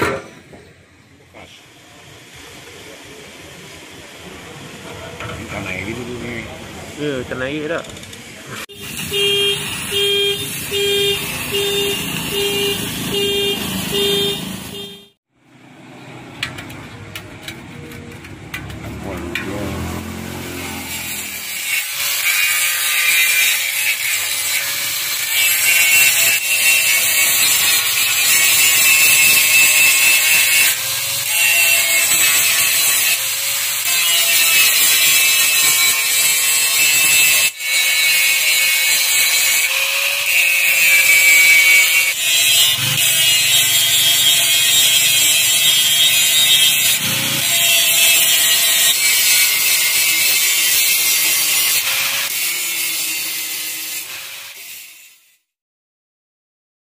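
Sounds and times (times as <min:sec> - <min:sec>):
angle grinder grinding metal: 0:07.8 - 0:14.9, 0:16.3 - 0:55.5.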